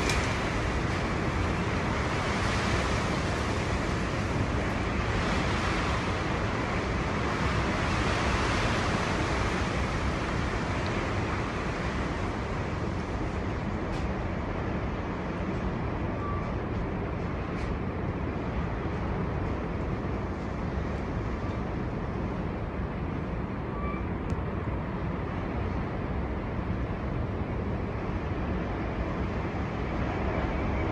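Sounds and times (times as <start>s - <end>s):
gusting storm wind: 0.0s - 30.9s.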